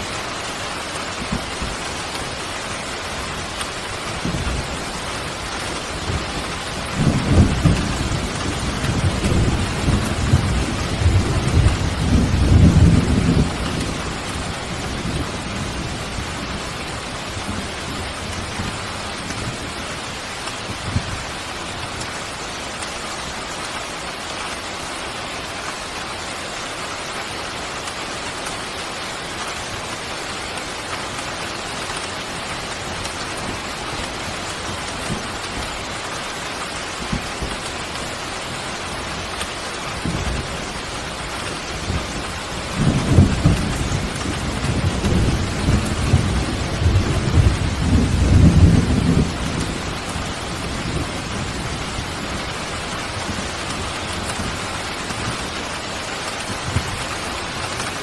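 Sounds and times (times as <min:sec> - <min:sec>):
thunder rumbling: 0:00.0 - 0:22.8, 0:31.9 - 0:58.0
steady rain falling: 0:00.0 - 0:58.0.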